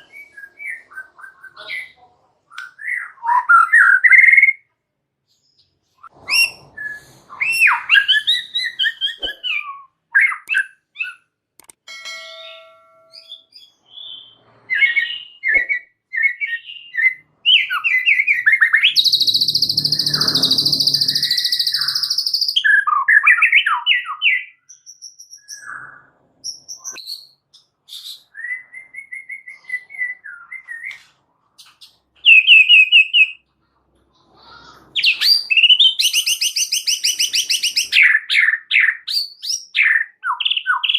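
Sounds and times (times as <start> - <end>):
songbird singing whistled phrases: 2.5 - 4.7, 6.2 - 11.3, 13.1 - 31.0, 31.6 - 33.4, 35.0 - 40.9.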